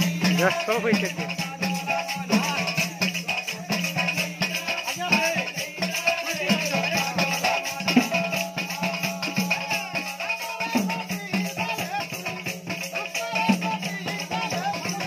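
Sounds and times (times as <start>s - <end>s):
fast continuous percussion: 0.0s - 15.0s
voices singing: 0.0s - 15.0s.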